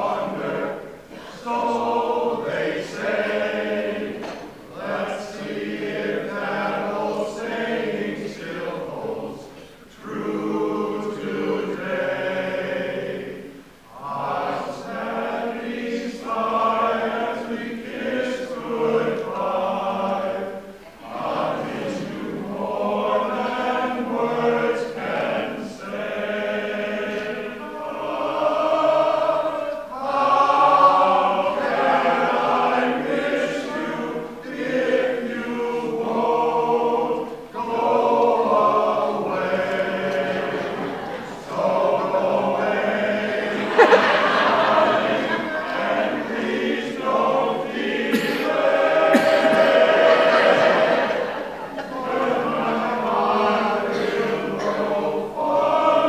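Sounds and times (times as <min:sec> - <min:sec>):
men's chorus singing in harmony: 0:00.0 - 0:56.0.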